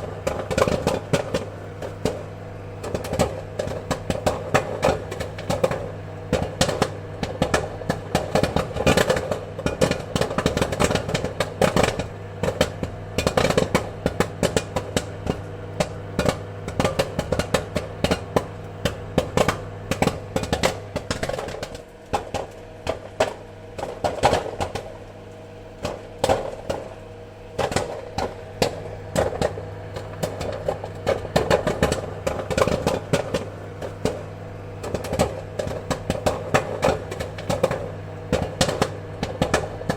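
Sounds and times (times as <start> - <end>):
popcorn kernels popping: 0.0 - 39.9.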